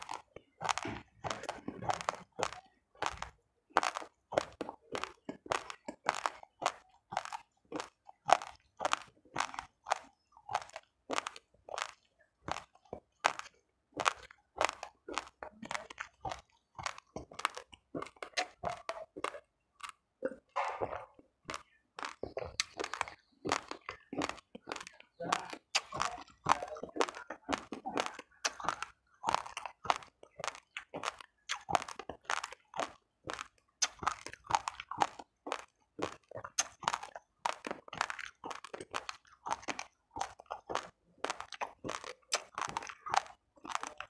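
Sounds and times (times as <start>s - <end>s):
raw rice crunching: 0.0s - 44.0s.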